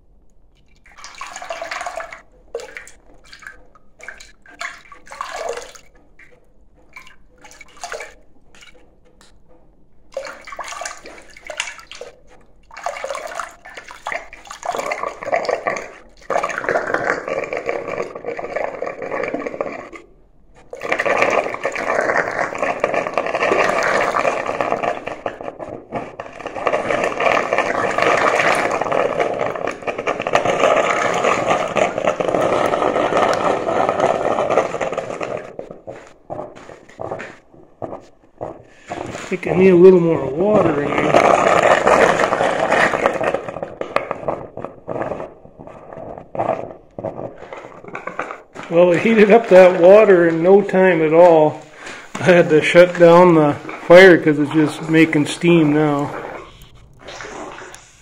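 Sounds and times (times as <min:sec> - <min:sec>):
water spurting and splashing into pot: 0:00.0 - 0:09.4, 0:10.0 - 0:58.0.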